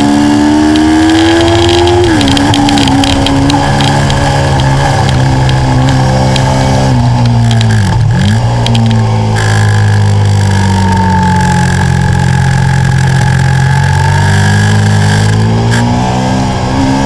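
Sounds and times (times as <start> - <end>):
motorcycle engine running hard: 0.0 - 17.0.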